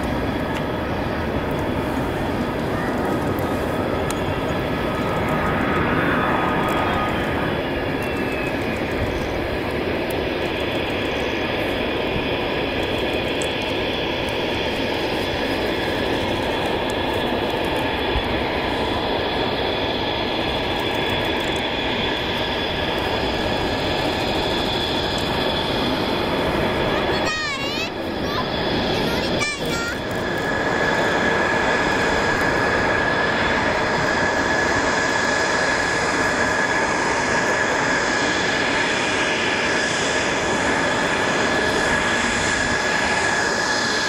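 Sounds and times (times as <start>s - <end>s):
jet engine roar with high whine: 0.0s - 44.0s.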